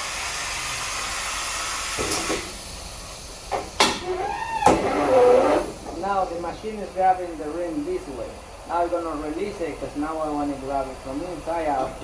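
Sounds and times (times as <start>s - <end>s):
air hissing from tire changer: 0.0s - 10.4s.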